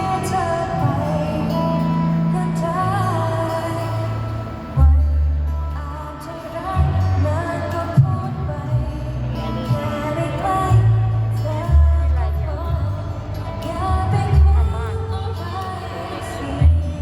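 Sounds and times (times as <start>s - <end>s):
pop song with female vocal: 0.0s - 17.0s.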